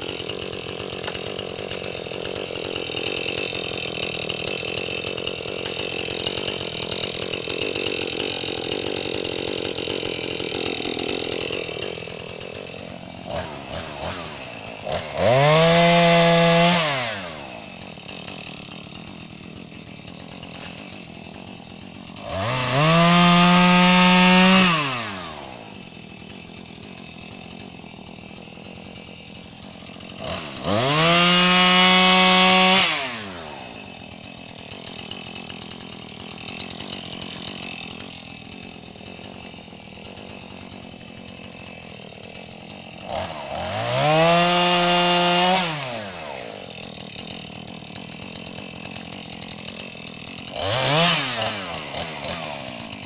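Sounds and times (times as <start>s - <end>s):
chainsaw cutting log: 0.0s - 53.0s
chainsaw idling: 0.0s - 53.0s
chainsaw revving: 0.0s - 53.0s.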